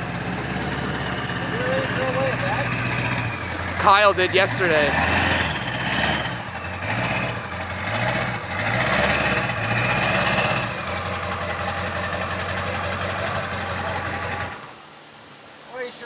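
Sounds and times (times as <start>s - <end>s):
pickup truck engine revving and idling: 0.0s - 14.7s.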